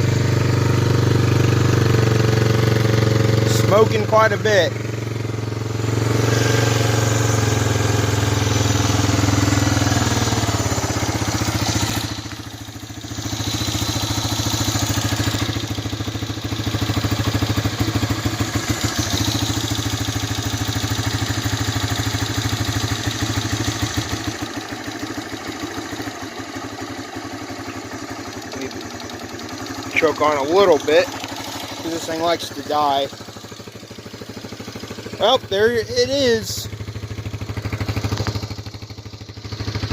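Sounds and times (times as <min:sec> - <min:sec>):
engine running unevenly: 0:00.0 - 0:39.9.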